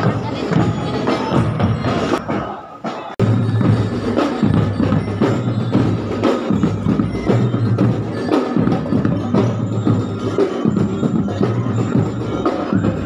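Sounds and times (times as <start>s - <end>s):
percussion marching music: 0.0s - 13.0s.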